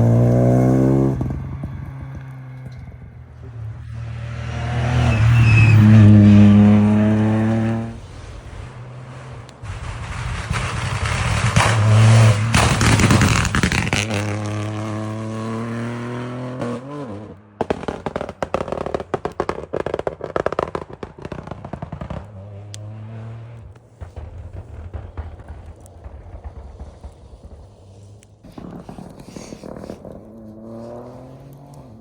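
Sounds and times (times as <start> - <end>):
rally car engine at full throttle: 0.0 - 19.0, 22.0 - 25.2, 26.5 - 32.0
sharp crackles and bangs: 0.0 - 32.0.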